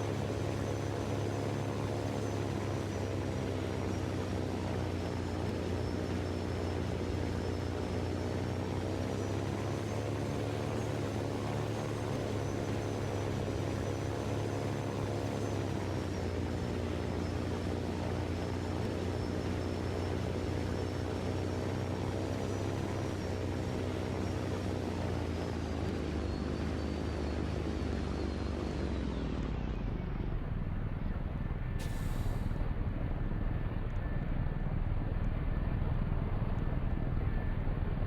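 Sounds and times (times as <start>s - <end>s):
engine drone: 0.0s - 38.0s.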